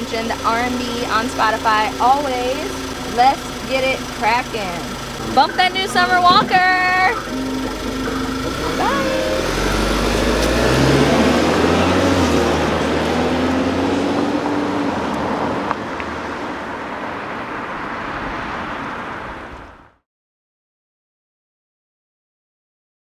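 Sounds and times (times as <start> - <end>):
car engine accelerating: 0.0 - 19.9
tyre noise on road: 0.0 - 20.0.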